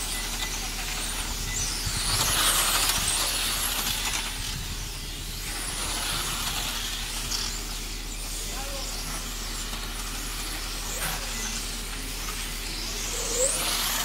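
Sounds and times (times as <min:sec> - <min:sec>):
rc car motors whining: 0:00.0 - 0:14.0.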